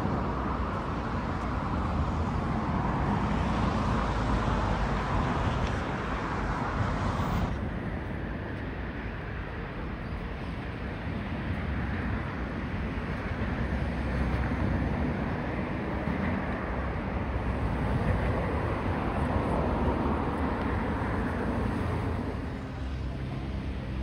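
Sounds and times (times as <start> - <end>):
road traffic hiss and rumble: 0.0 - 24.0
wind buffeting microphone: 0.0 - 24.0.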